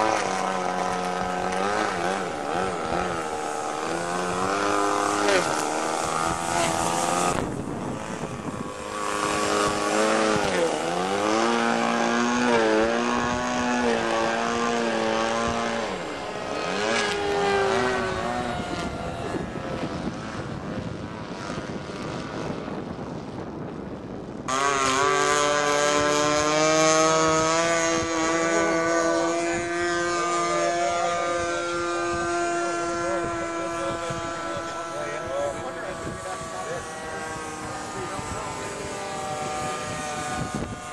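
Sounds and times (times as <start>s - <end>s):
model airplane engine and propeller: 0.0s - 40.9s.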